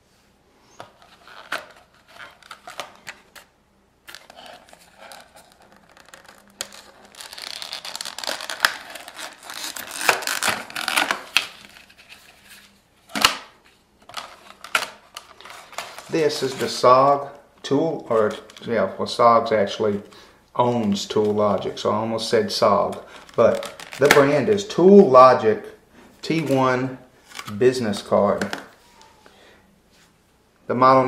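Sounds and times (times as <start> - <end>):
crinkling and rustling: 0.8 - 18.9, 19.7 - 24.4, 26.3 - 29.3.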